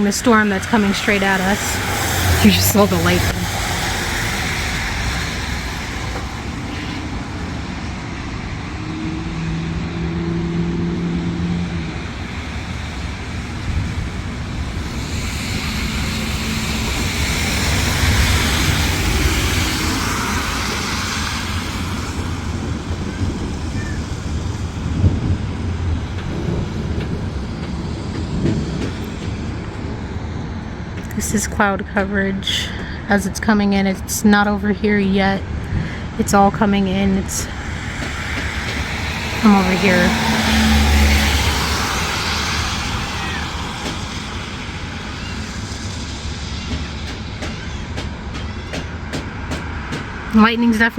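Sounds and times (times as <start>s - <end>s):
low rumble: 0.0s - 48.4s
wind noise: 0.0s - 50.9s.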